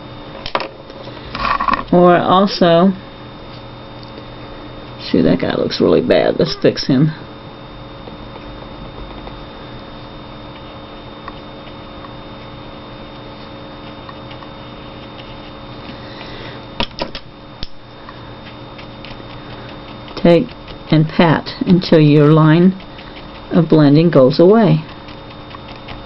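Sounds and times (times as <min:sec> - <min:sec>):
fan or appliance hum: 0:00.0 - 0:26.0.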